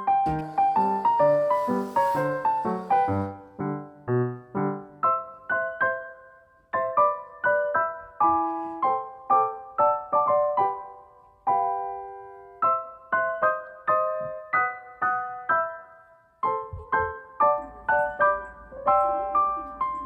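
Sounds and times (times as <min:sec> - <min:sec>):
gentle piano chords: 0:00.0 - 0:20.0.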